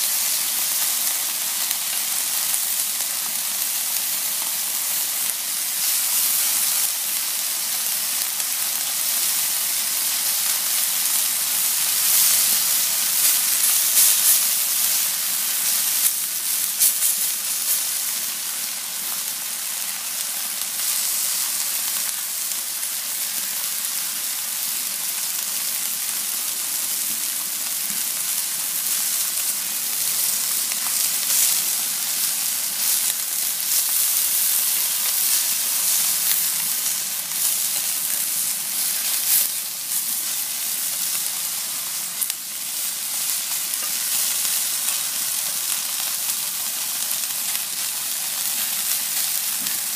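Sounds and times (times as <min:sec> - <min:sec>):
chicken sizzling on grill pan: 0:00.0 - 0:49.9.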